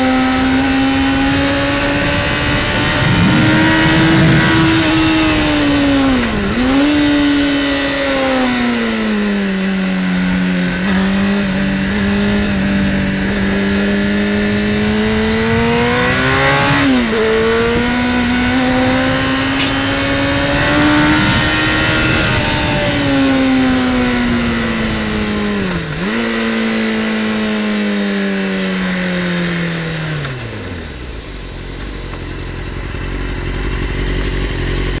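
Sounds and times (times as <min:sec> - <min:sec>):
motorcycle engine: 0:00.0 - 0:35.0.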